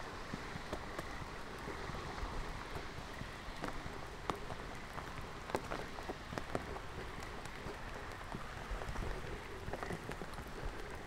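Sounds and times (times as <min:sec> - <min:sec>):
rain falling: 0:00.0 - 0:11.0
raindrops striking close by: 0:00.0 - 0:11.0.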